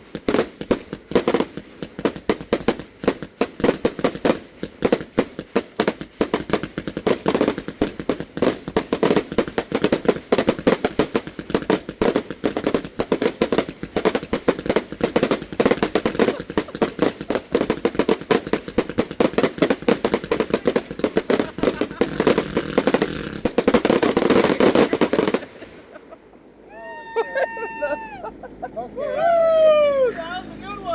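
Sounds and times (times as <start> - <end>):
firework bangs: 0.0 - 26.2.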